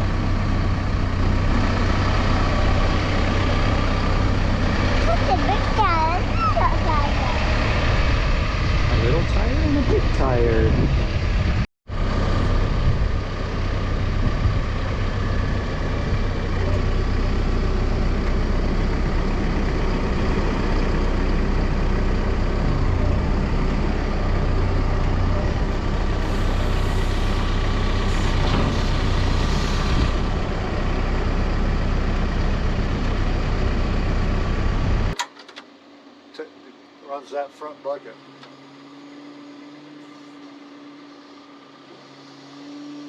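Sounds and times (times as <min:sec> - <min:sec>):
diesel engine running: 0:00.0 - 0:35.2, 0:35.8 - 0:43.0.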